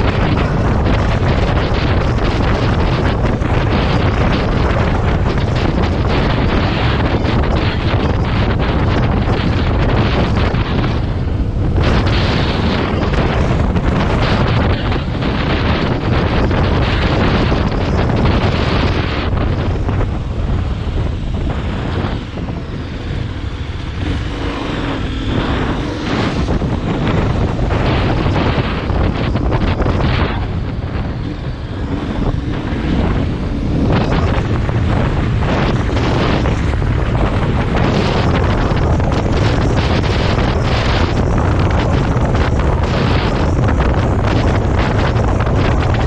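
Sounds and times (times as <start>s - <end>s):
heavy wind buffeting microphone: 0.0s - 46.0s.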